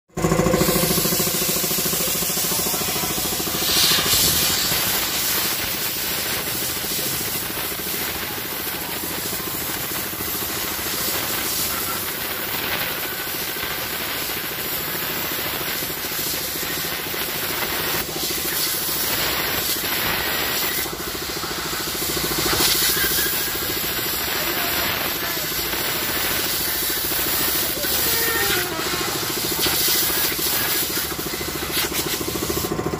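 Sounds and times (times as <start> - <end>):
piston air compressor running: 0.1 - 32.9
compressed air hissing from nozzle: 0.5 - 32.8.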